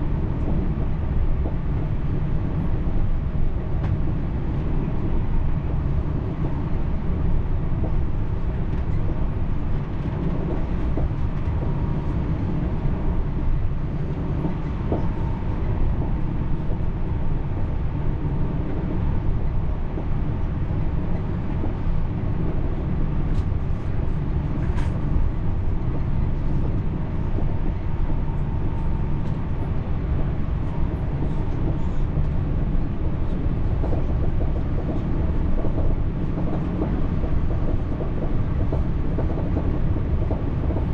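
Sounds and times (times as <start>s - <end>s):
train rumbling along track: 0.0s - 40.9s.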